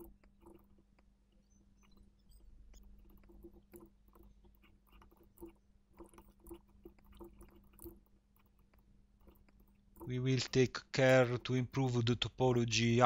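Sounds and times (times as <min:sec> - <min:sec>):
mouse and keyboard clicks: 0:00.0 - 0:10.5
low steady hum: 0:00.0 - 0:13.0.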